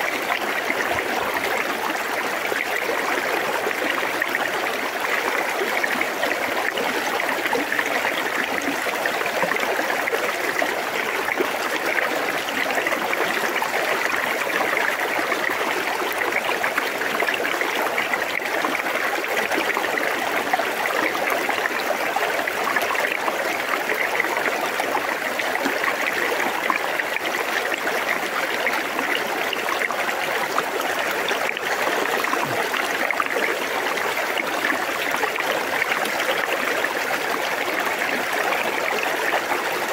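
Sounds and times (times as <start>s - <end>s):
river water flowing around stones: 0.0s - 39.9s.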